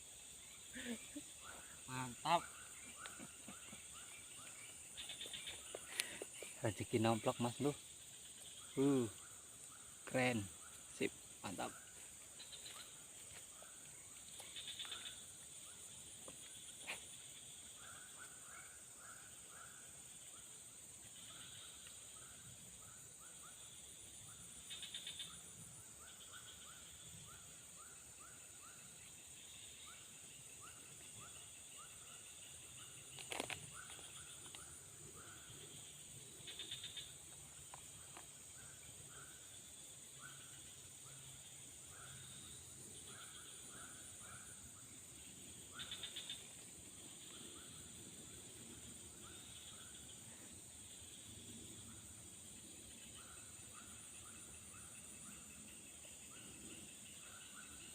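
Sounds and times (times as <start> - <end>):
high insect drone: 0.0 - 57.9.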